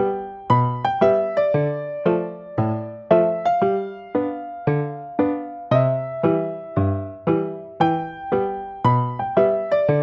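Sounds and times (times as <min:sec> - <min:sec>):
gentle keyboard chords: 0:00.0 - 0:10.0.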